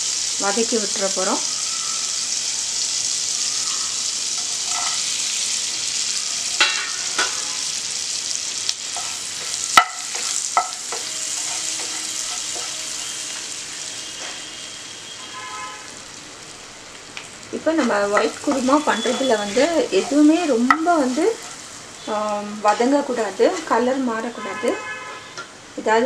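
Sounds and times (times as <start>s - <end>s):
spices sizzling in butter: 0.0s - 24.6s.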